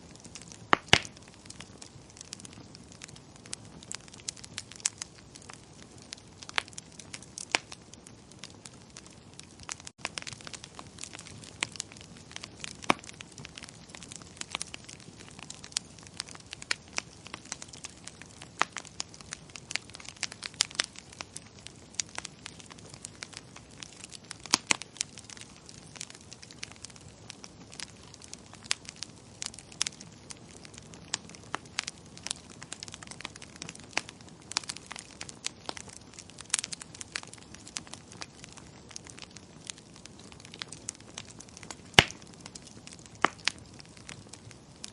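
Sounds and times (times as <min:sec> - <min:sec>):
wood fire popping and snapping: 0:00.0 - 0:44.9.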